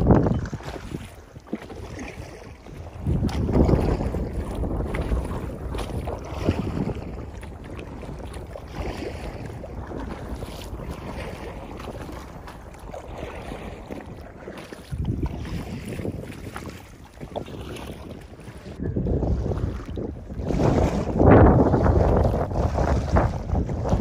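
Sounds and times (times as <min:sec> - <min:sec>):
water lapping and splashing: 0:00.0 - 0:24.0
wind buffeting microphone: 0:00.0 - 0:24.0.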